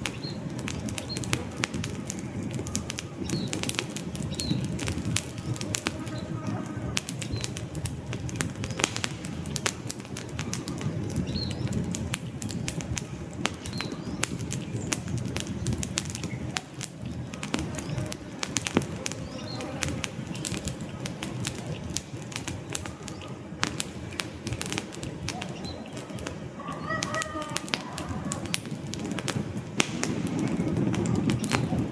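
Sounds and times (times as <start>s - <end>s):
flames rushing: 0.0s - 31.9s
logs crackling and popping: 0.0s - 31.9s.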